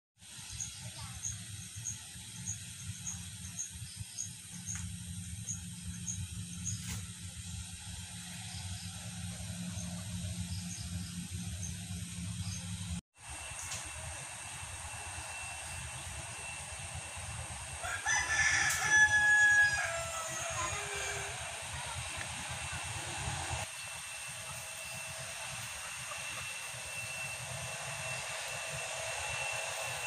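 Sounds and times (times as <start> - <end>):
distant jet airliners taxiing: 4.4 - 30.0.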